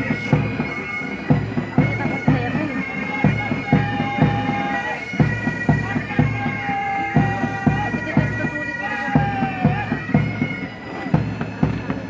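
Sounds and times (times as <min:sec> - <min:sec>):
bagpipes playing a march: 0:00.0 - 0:12.0
drums beating: 0:00.0 - 0:12.0.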